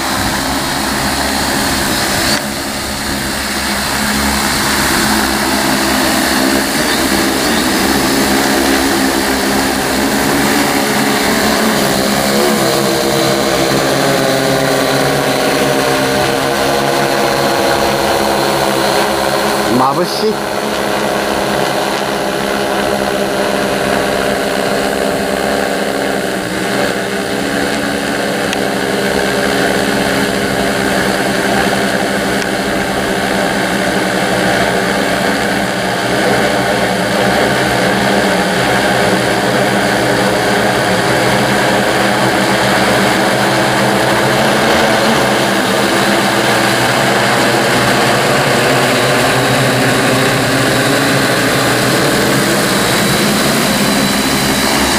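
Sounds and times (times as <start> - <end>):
drone motors and propellers humming: 0.0 - 54.9.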